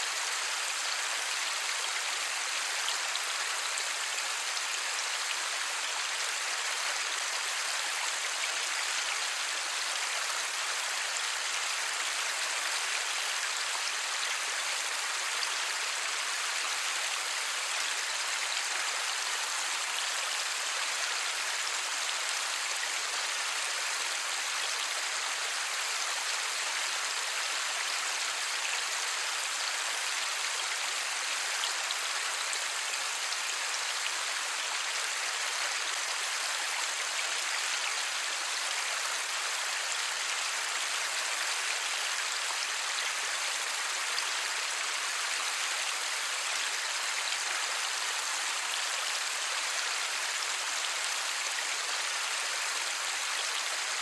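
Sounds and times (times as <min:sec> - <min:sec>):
light rain falling: 0:00.0 - 0:54.0.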